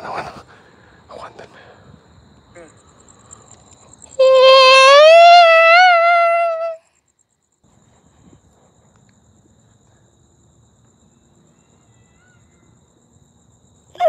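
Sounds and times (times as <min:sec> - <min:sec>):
night insects trilling: 0:00.0 - 0:14.0.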